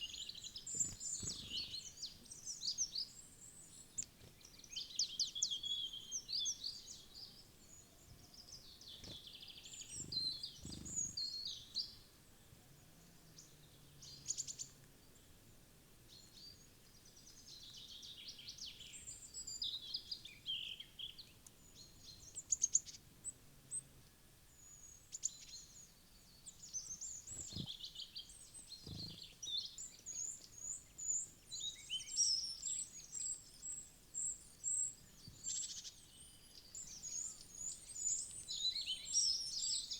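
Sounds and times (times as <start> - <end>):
small birds chirping: 0.0 - 15.4, 16.1 - 23.9, 24.6 - 39.9.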